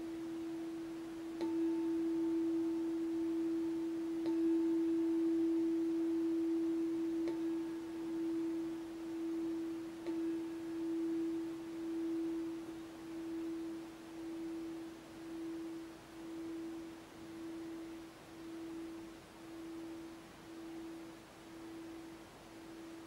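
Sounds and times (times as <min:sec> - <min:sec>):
singing bowl ringing: 0:00.0 - 0:22.2.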